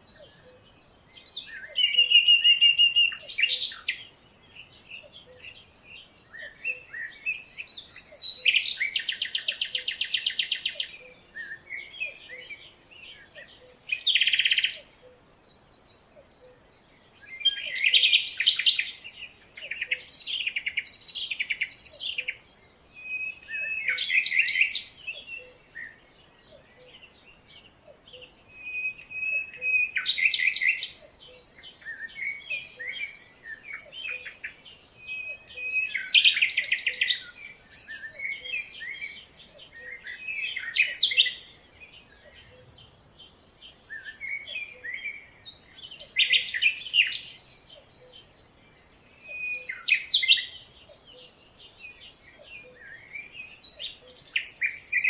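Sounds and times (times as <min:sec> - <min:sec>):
birds chirping and trilling: 0:00.0 - 0:55.0
soft bird calls: 0:00.0 - 0:55.0.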